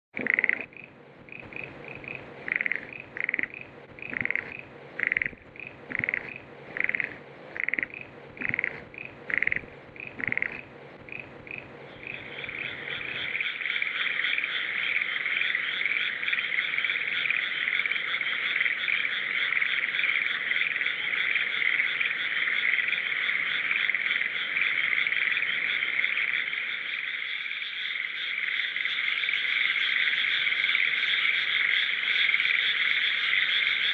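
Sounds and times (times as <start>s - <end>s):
small frog calling: 0.2s - 33.9s.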